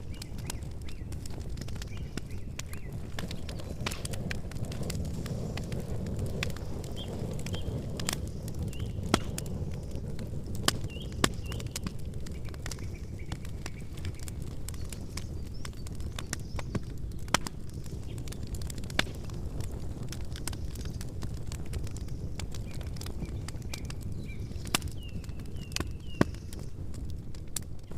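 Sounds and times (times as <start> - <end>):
campfire rumble: 0.0 - 27.9
fire crackles and pops: 0.0 - 27.9.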